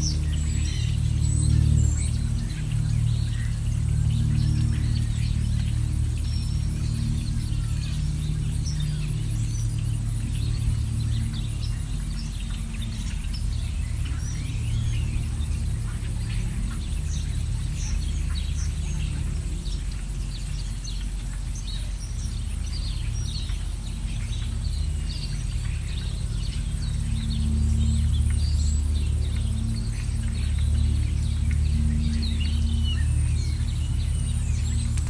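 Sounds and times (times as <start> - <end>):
songbirds chirping and twittering: 0.0 - 35.0
steady low rumble: 0.0 - 35.0.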